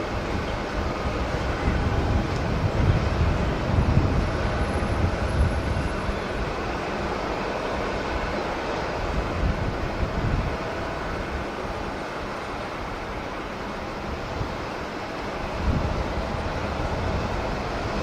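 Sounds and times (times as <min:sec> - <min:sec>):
jet airliner engines running: 0:00.0 - 0:18.0
wind buffeting microphone: 0:00.0 - 0:18.0.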